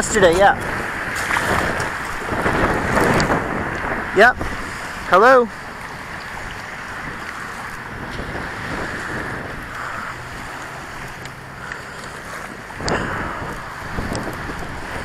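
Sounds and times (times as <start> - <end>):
small waves washing ashore: 0.0 - 15.0
wind on microphone: 0.0 - 15.0.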